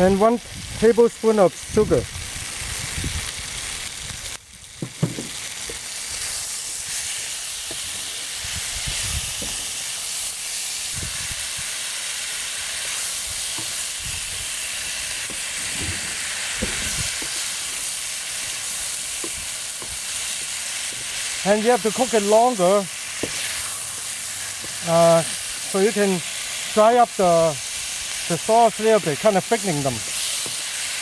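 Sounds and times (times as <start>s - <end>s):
sauce sizzling in a frying pan: 0.0s - 31.0s.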